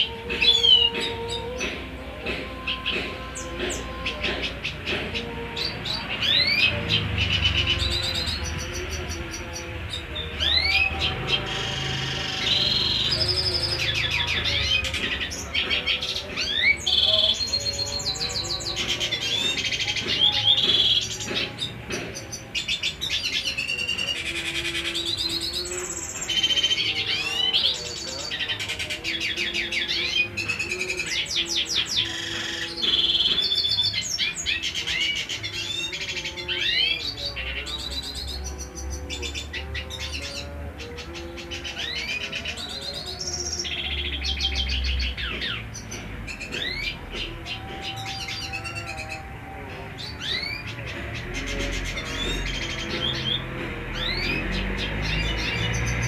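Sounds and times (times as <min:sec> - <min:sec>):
bird twittering song: 0:00.0 - 0:56.0.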